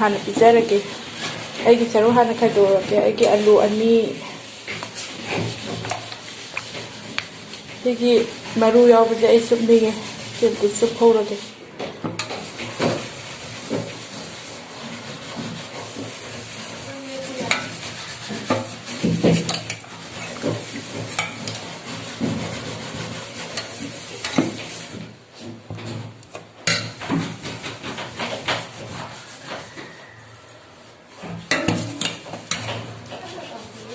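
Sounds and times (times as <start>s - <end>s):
spoon stirring and scraping: 0.0s - 33.9s.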